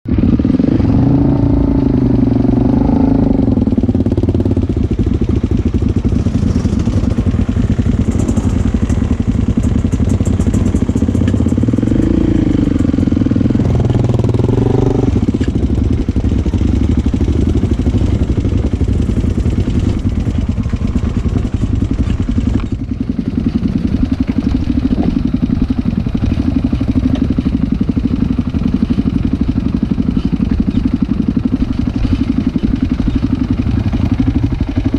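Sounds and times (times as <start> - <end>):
motorcycle engines revving: 0.1 - 34.9.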